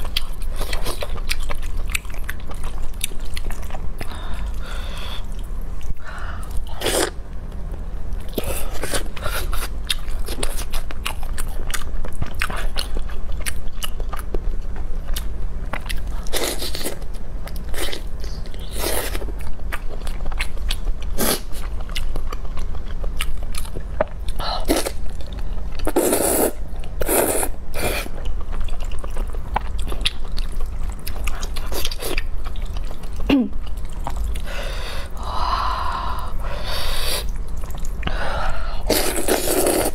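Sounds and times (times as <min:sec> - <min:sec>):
person chewing crunchy food: 0:00.0 - 0:07.2, 0:08.2 - 0:39.9.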